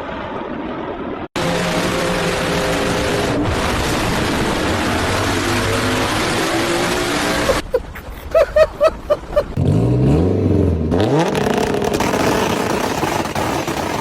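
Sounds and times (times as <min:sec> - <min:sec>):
car engine and exhaust: 0:00.0 - 0:07.6, 0:09.5 - 0:14.0.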